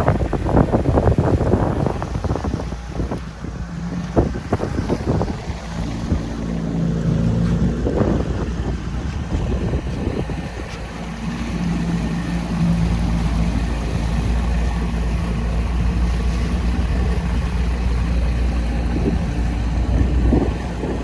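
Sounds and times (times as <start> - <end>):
boat engine droning: 0.0 - 21.0
rushing water: 0.0 - 21.0
wind on microphone: 0.0 - 21.0.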